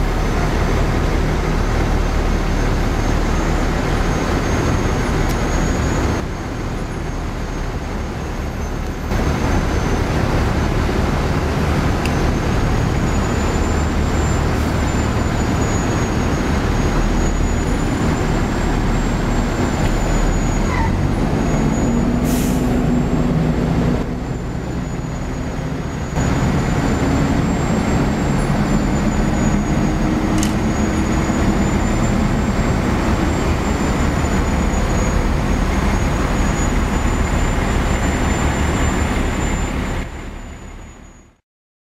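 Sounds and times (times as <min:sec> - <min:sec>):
diesel engines idling: 0:00.0 - 0:41.2.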